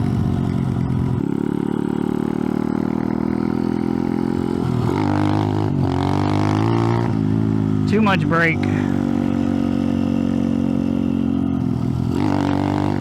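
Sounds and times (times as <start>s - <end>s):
mini bike engine revving: 0.0s - 13.0s.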